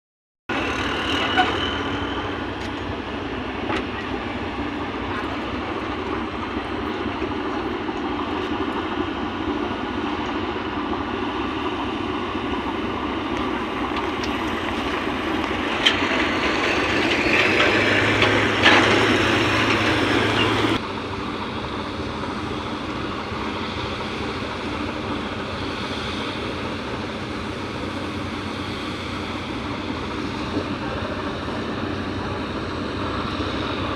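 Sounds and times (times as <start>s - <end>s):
ship engines rumbling: 0.5s - 33.9s.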